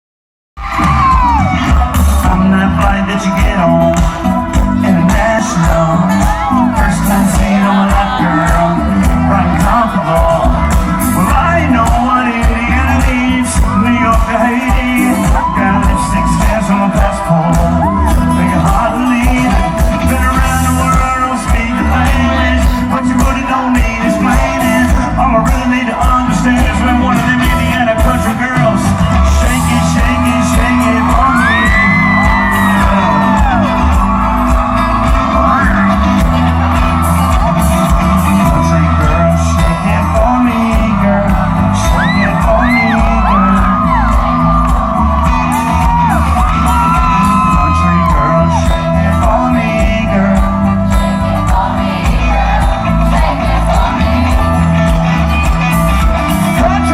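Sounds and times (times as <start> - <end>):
person singing: 0.6 - 56.9
background music with steady beat: 0.7 - 56.9.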